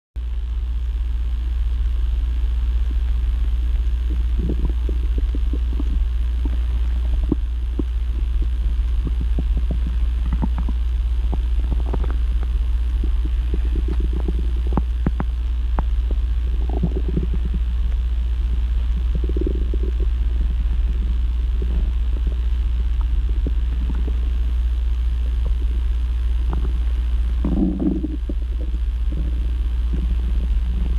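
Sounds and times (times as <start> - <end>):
steady low hum: 0.2 - 30.9
stomach growling gurgles: 2.7 - 30.9.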